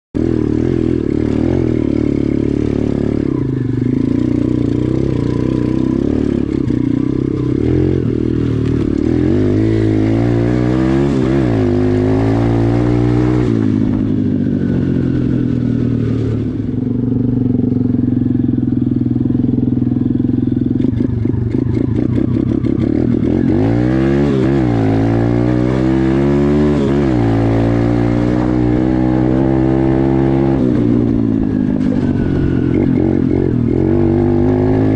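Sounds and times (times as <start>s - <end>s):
motocross bike engine revving: 0.2s - 34.9s.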